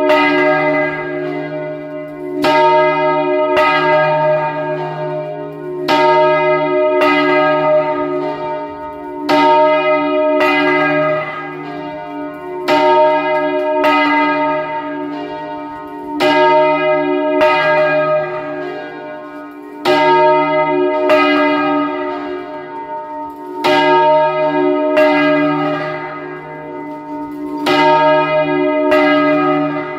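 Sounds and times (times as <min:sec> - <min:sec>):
large church bell ringing: 0:00.0 - 0:29.9.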